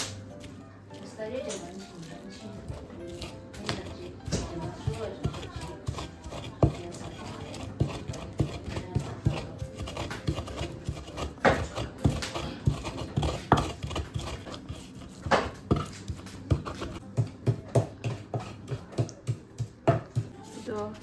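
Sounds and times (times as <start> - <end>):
pestle pounding in wooden mortar: 2.4 - 20.5.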